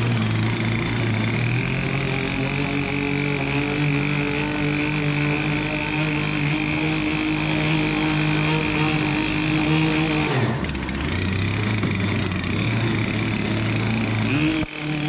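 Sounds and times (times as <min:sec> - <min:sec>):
two-stroke engine running hard: 0:00.0 - 0:15.0.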